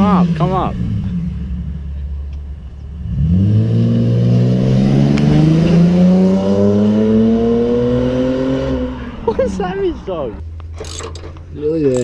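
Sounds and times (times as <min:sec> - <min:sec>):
car engine rumbling and accelerating: 0:00.0 - 0:12.0.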